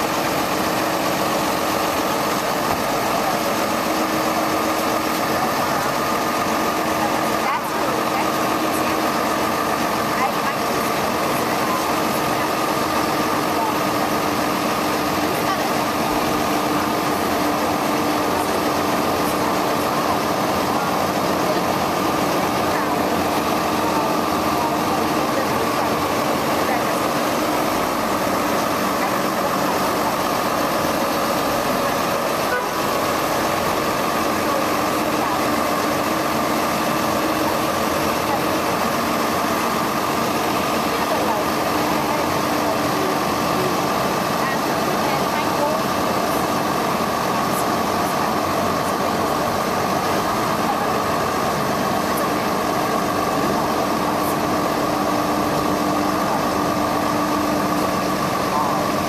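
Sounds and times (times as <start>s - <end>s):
steady whine: 0.0s - 59.0s
truck engine running: 0.0s - 59.0s.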